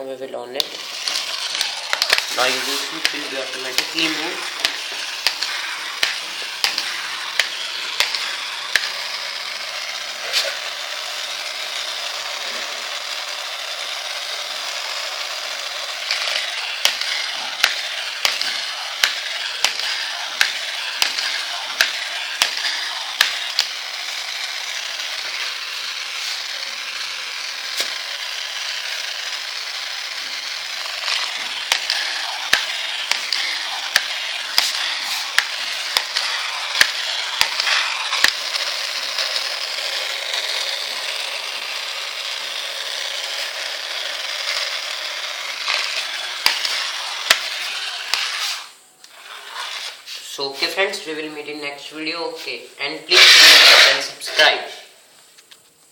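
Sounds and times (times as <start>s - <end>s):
toy motor and gears whirring: 0.0s - 55.9s
sharp regular clicks: 0.6s - 48.4s.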